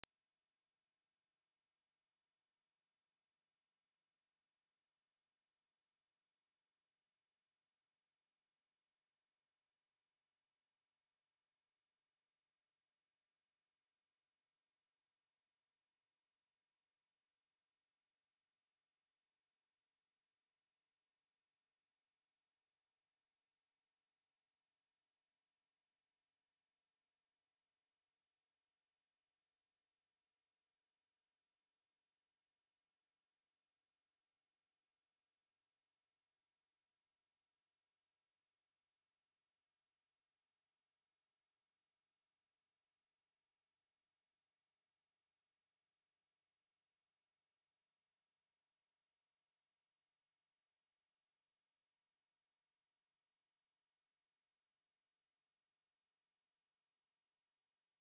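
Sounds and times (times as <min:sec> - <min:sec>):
steady high-pitched sine tone: 0:00.0 - 0:58.0.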